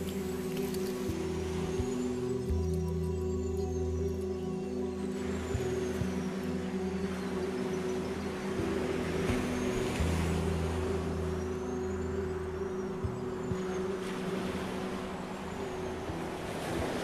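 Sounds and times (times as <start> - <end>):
ambient electronic music: 0.0 - 17.0
sea waves: 0.0 - 17.0.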